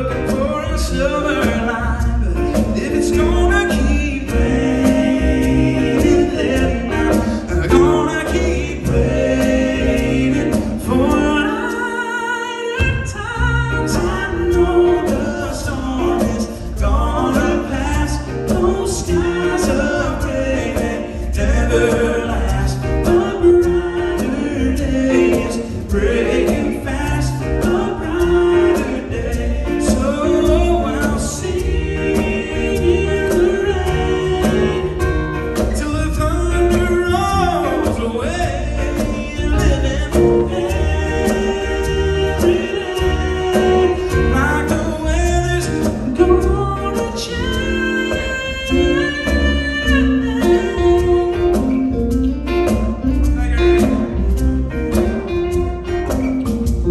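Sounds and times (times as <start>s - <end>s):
men singing gospel: 0.0s - 56.9s.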